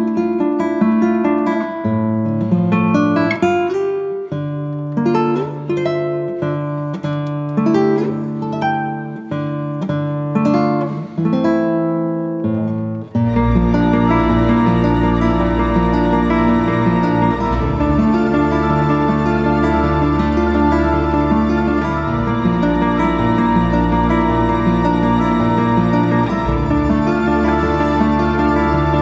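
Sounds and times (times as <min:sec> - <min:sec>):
acoustic guitar plucked chords: 0:00.0 - 0:29.0.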